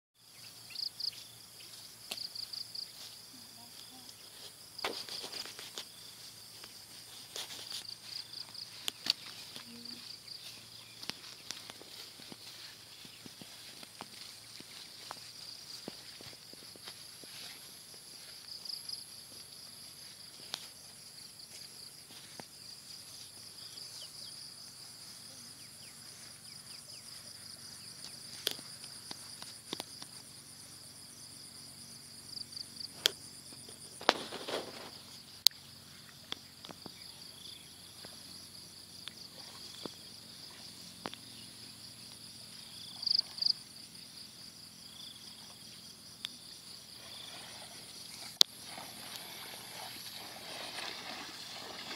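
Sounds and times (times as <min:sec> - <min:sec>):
insect chorus trilling: 0:00.2 - 0:51.9.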